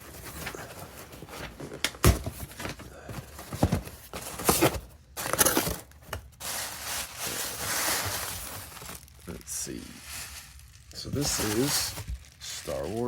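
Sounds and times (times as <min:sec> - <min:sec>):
packing material rustling and crinkling: 0:00.0 - 0:13.0.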